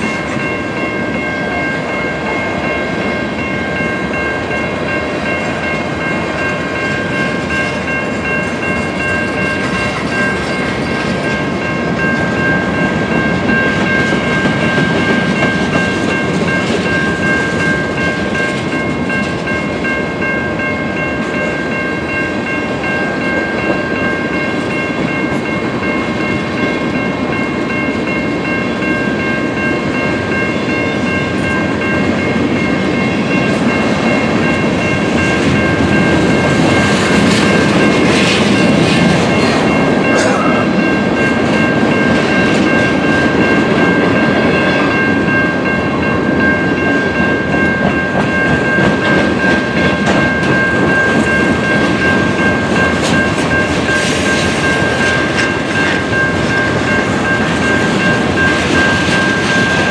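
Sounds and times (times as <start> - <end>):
freight train rumble: 0.0 - 59.9
train wheels clacking on rail joints: 3.1 - 59.9.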